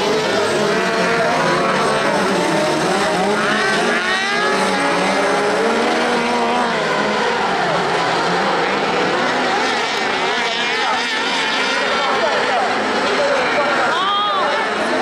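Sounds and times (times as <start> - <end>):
racing buggy engines revving: 0.0 - 15.0.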